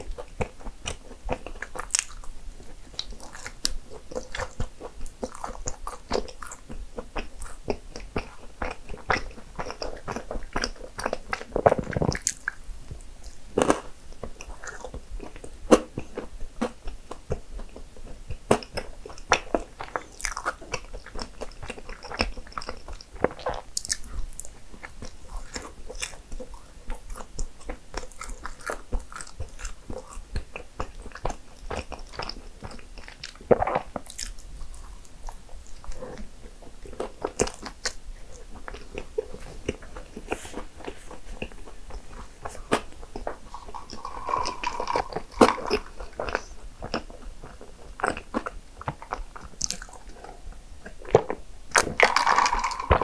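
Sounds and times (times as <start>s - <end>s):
person chewing pastry: 0.0s - 53.0s.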